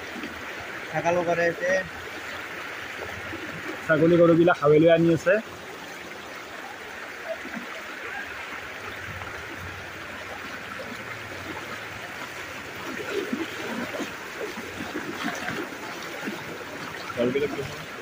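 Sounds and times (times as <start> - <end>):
rushing floodwater: 0.0 - 18.0.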